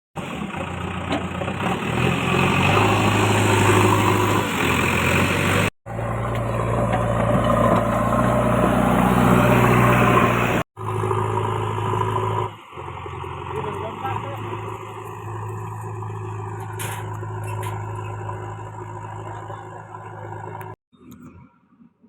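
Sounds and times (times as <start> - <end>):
heavy machine engine running: 0.2 - 20.8.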